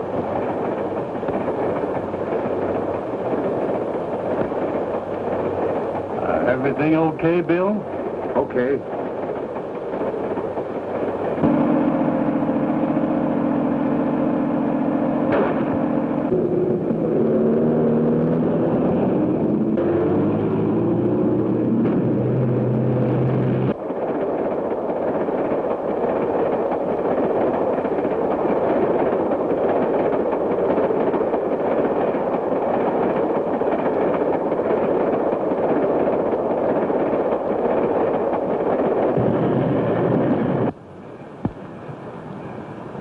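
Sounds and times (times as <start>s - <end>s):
steam train running: 0.0s - 43.0s.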